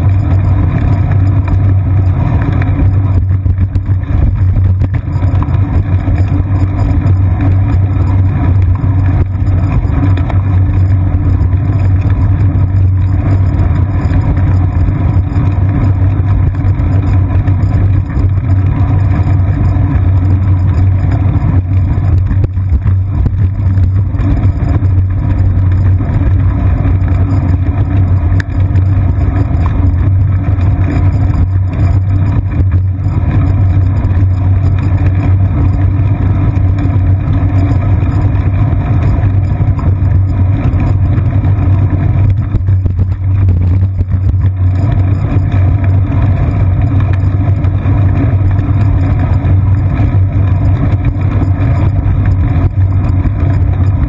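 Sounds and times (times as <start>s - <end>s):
low hum: 0.0s - 54.0s
road vibration rumble: 0.0s - 54.0s
wind on camera: 0.0s - 54.0s.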